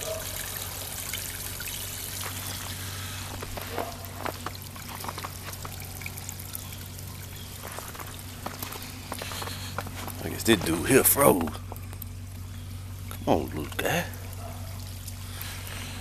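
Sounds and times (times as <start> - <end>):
water splashes and drips: 0.0 - 16.0
water trickling from fountain: 0.0 - 16.0.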